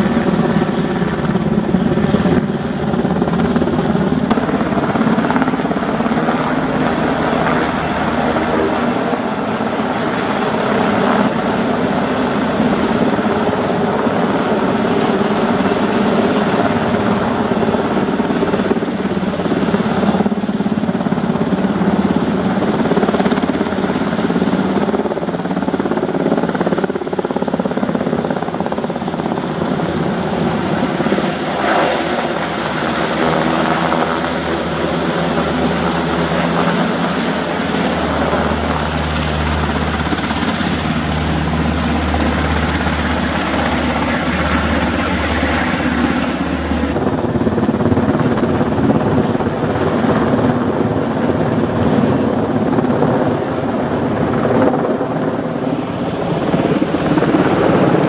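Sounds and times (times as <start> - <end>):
helicopter rotors and engines: 0.0 - 58.0.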